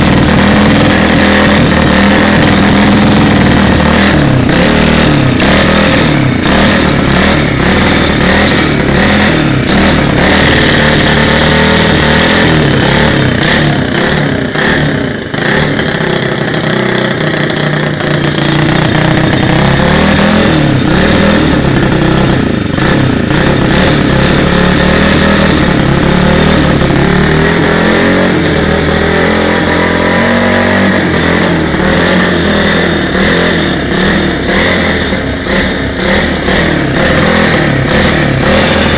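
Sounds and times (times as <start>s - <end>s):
small motorcycle engine revving: 0.0s - 38.9s.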